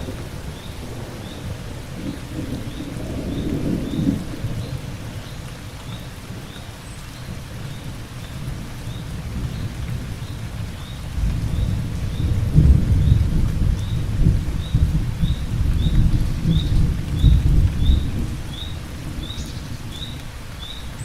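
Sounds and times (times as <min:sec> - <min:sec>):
rolling thunder rumble: 0:00.0 - 0:05.5, 0:08.4 - 0:20.2
steady rain: 0:00.0 - 0:21.0.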